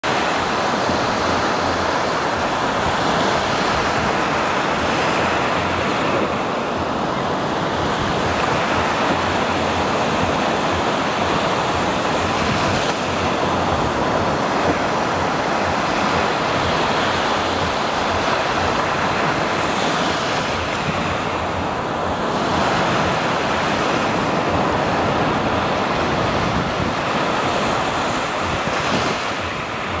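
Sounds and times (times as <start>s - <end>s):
small waves breaking on beach: 0.0s - 30.0s
wind buffeting microphone: 0.1s - 30.0s.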